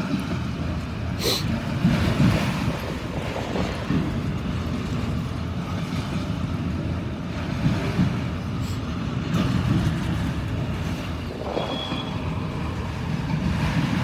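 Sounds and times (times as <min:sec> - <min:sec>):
freight train wheels rumbling: 0:00.0 - 0:14.0
wind buffeting microphone: 0:00.0 - 0:14.0.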